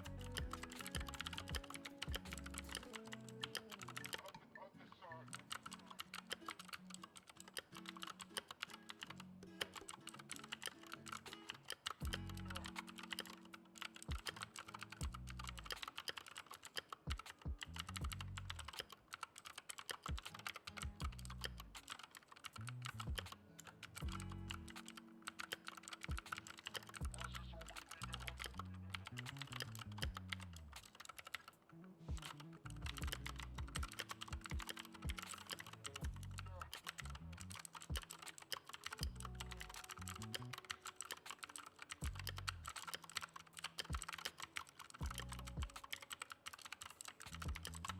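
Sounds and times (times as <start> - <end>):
mechanical keyboard key clicks: 0.0 - 4.3, 5.3 - 31.5, 32.1 - 47.9.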